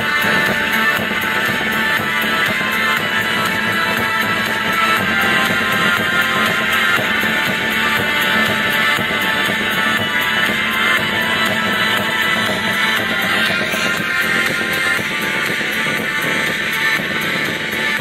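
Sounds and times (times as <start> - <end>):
rock music through speaker: 0.0 - 18.0.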